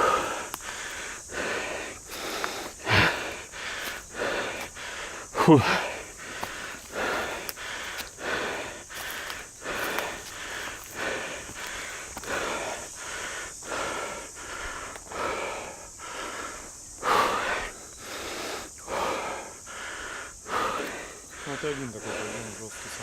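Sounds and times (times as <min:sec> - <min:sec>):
person panting heavily: 0:00.0 - 0:23.0.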